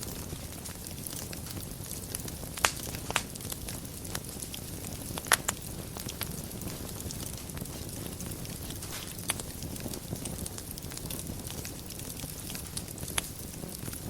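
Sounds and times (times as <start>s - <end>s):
fire crackles and pops: 0.0s - 14.0s
wood fire rumbling: 0.0s - 14.0s.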